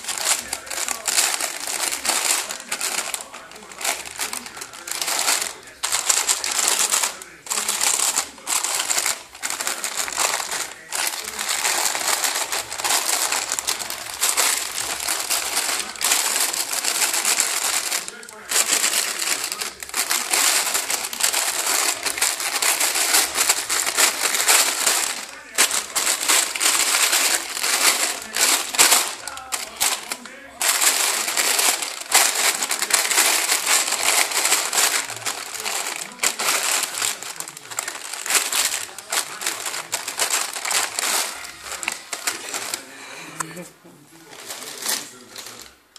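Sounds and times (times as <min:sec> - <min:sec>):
plastic bag crinkling: 0:00.0 - 0:45.9.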